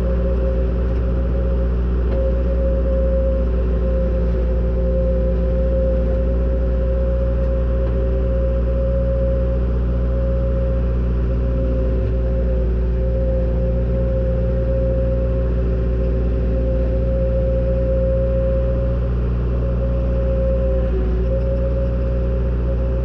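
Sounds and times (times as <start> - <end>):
diesel engine droning: 0.0 - 23.0
steady high whine: 0.0 - 23.0.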